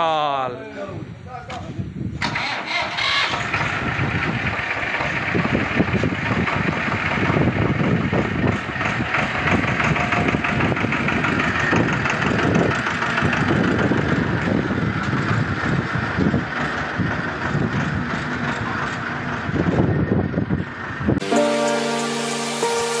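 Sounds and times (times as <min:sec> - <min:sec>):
diesel tractor engine running: 0:02.0 - 0:23.0.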